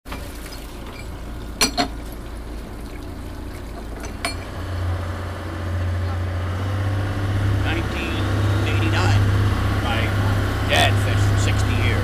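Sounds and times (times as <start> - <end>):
steady low hum: 1.2 - 12.0.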